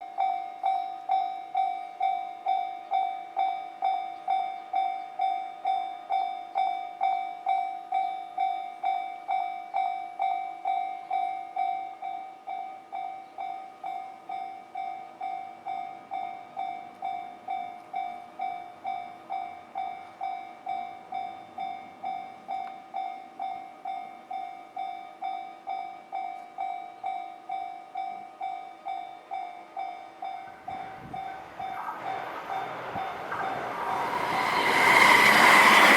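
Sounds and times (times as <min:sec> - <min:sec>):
level-crossing warning bell ringing: 0:00.0 - 0:35.9.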